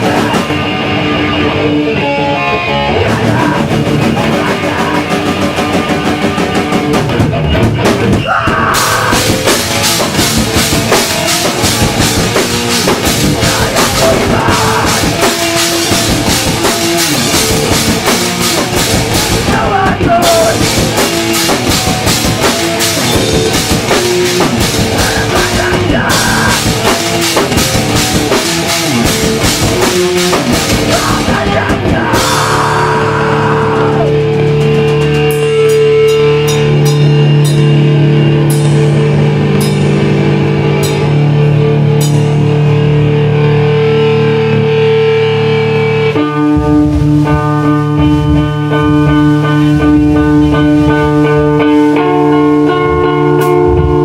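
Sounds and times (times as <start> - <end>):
distorted electric guitars: 0.0 - 54.0
pounding drum kit: 0.0 - 54.0.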